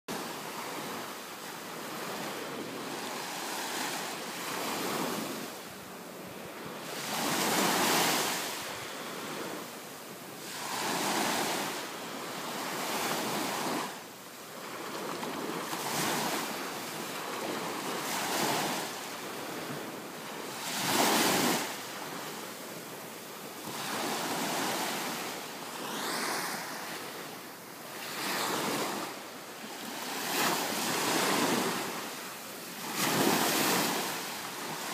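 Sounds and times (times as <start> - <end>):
small waves breaking on a beach: 0.1 - 34.9.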